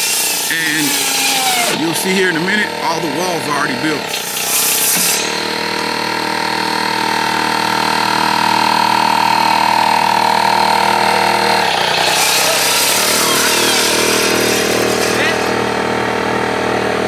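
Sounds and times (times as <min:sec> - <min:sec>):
air compressor motor drone: 0:00.0 - 0:17.0.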